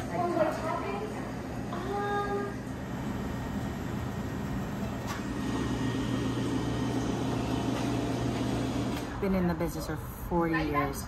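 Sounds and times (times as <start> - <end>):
refrigeration machinery hum: 0.0 - 11.0.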